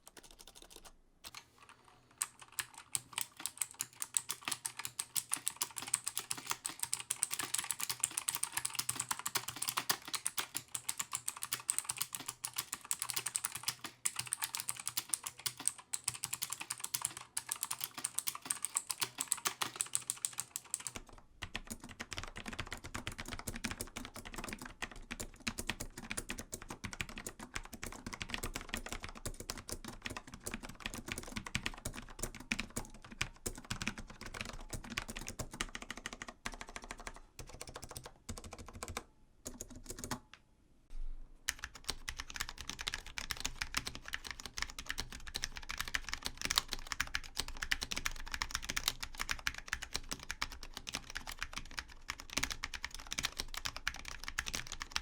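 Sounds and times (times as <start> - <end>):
mechanical keyboard typing: 0.0 - 40.3, 41.5 - 55.0.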